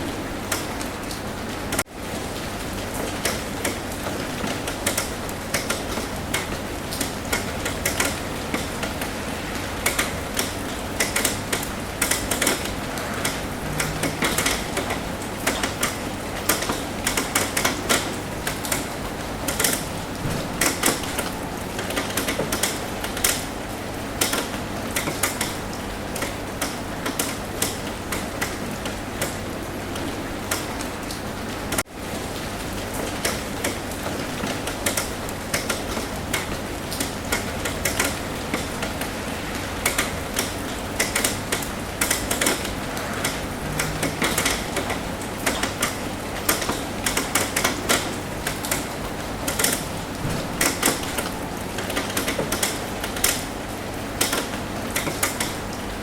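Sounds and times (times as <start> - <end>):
rain tapping on a roof: 0.0 - 56.0.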